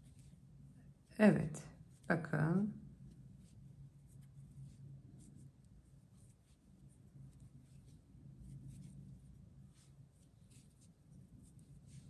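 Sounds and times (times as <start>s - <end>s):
yarn rustling with crochet hook: 0.0s - 1.1s, 2.9s - 12.0s
low steady hum: 0.0s - 12.0s.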